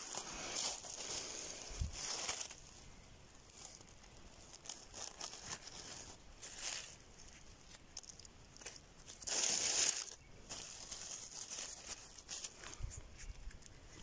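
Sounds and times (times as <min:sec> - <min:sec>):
dry leaves rustling: 0:00.0 - 0:14.0.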